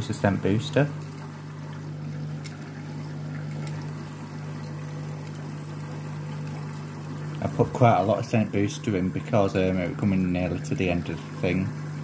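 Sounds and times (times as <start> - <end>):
low motor hum: 0.0 - 12.0
water sloshing in washing machine: 0.0 - 12.0.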